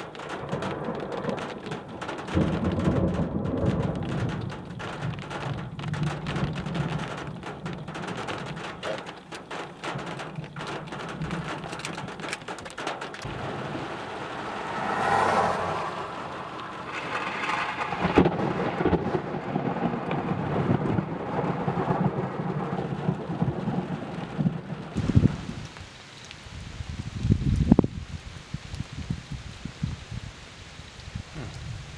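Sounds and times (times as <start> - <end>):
thunder rumbling and cracking: 0.0 - 25.8
rain pattering: 0.0 - 31.9.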